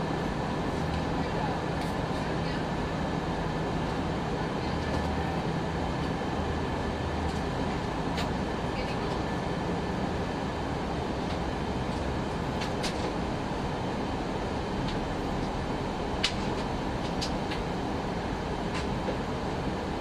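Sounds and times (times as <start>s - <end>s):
aircraft cabin airflow and engine: 0.0s - 20.0s.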